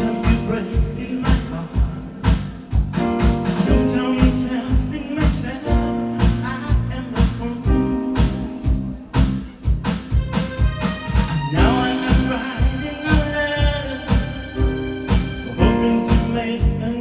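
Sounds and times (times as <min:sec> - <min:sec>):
drum beat: 0:00.0 - 0:17.0
held instrumental chords: 0:00.0 - 0:17.0.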